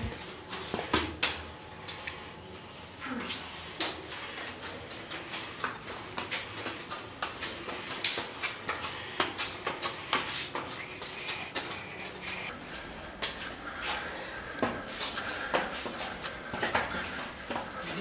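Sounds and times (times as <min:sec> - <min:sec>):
footsteps on stone stairs: 0:00.0 - 0:18.0.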